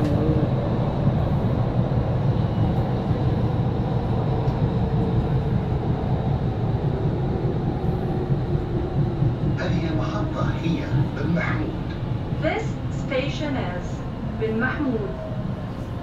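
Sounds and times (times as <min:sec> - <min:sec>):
train wheels rumbling in tunnel: 0:00.0 - 0:16.0.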